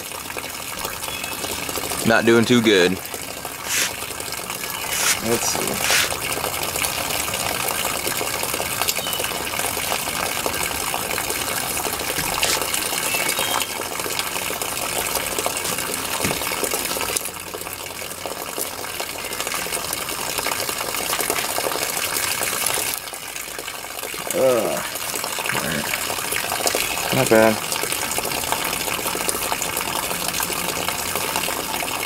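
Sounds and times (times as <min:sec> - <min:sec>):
water from hose onto wooden board: 0:00.0 - 0:32.0.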